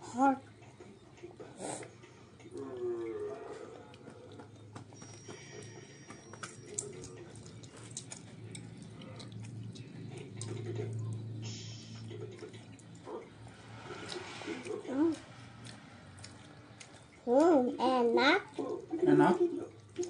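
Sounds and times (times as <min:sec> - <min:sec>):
low steady hum: 0:00.0 - 0:20.0
people chewing: 0:00.6 - 0:20.0.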